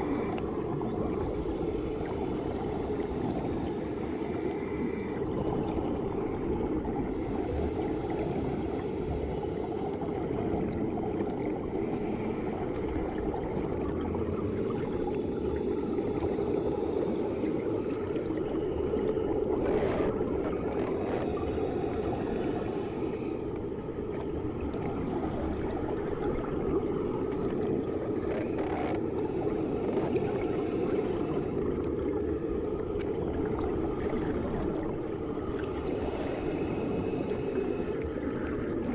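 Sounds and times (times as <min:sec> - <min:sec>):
underwater rushing water: 0:00.0 - 0:38.9.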